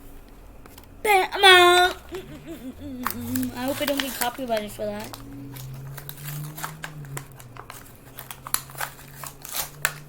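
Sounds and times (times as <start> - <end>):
low steady hum: 0.0 - 10.0
plastic packaging crinkling: 1.8 - 10.0.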